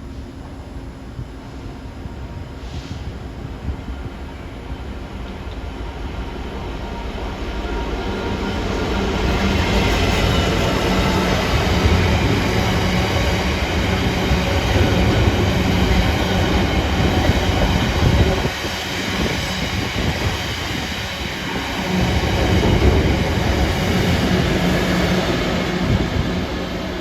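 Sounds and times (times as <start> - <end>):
train passing close by: 0.0 - 27.0.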